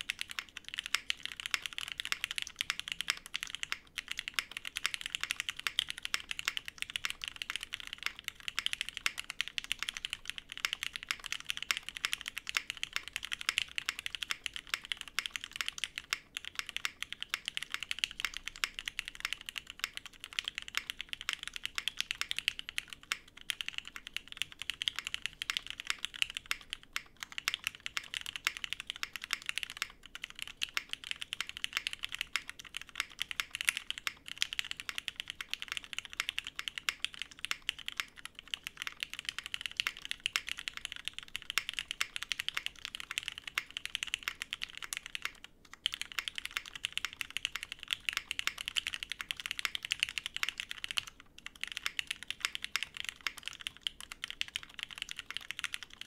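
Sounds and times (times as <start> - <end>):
fast mechanical keyboard typing: 0.0 - 56.0.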